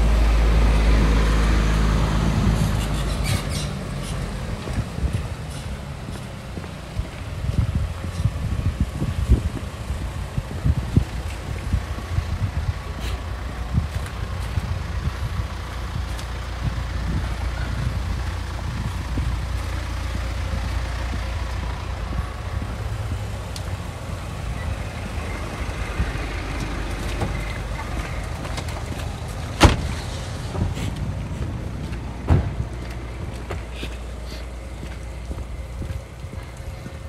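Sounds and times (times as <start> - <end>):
motor vehicle rumbling: 0.0 - 37.0.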